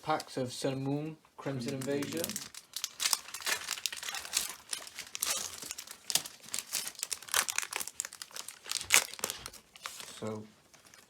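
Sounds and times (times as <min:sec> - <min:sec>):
foil wrapper crinkling and tearing: 0:01.5 - 0:11.0.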